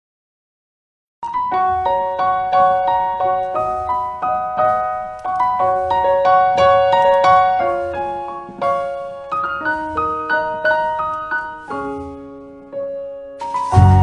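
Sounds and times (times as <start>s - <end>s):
slow piano melody: 1.2s - 14.0s.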